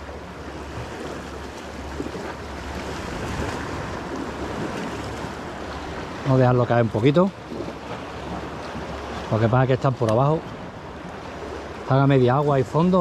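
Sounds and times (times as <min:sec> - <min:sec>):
sea water washing: 0:00.0 - 0:13.0
wind: 0:00.0 - 0:13.0.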